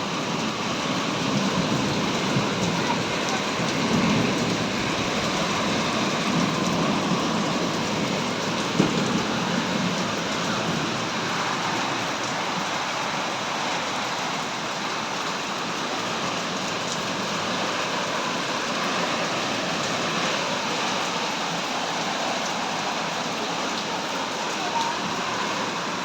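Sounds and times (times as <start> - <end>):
heavy rainfall: 0.0 - 26.0.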